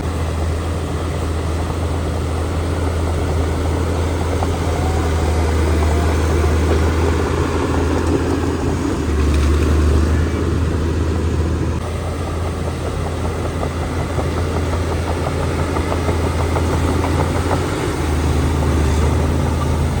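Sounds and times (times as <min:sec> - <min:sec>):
diesel machinery engine drone: 0:00.0 - 0:20.0.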